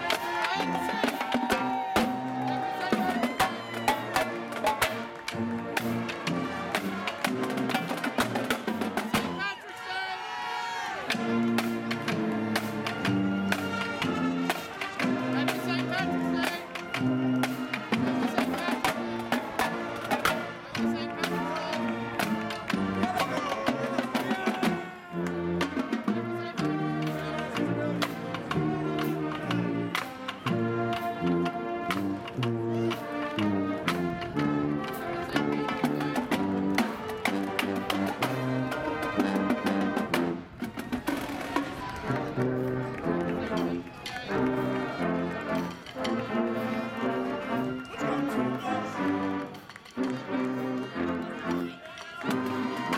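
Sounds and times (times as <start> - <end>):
marching band playing: 0.0 - 52.9.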